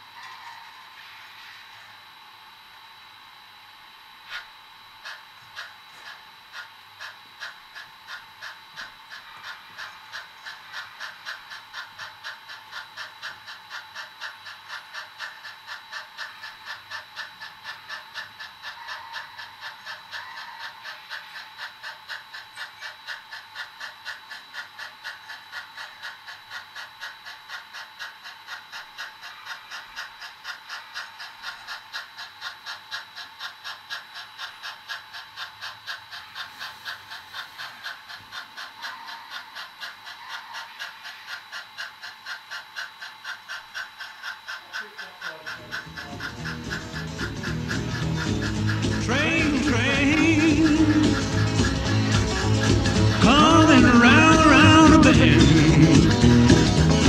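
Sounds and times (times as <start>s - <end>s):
model locomotive steam chuffing: 4.2s - 57.0s.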